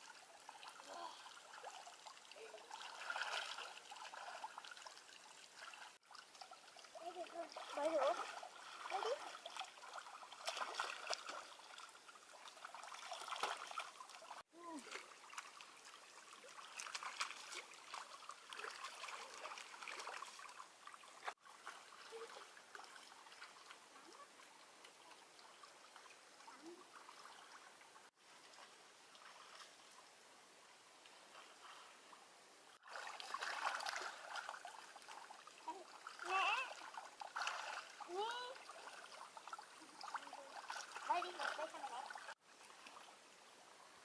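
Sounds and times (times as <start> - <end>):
water trickling: 0.0 - 44.0.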